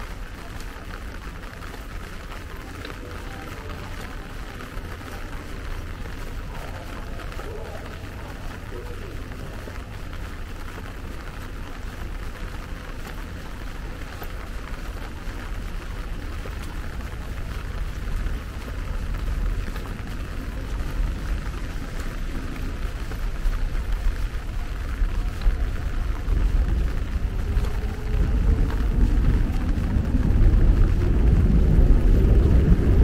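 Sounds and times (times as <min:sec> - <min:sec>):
rain on brick paving: 0:00.0 - 0:33.0
low rumble: 0:00.4 - 0:33.0.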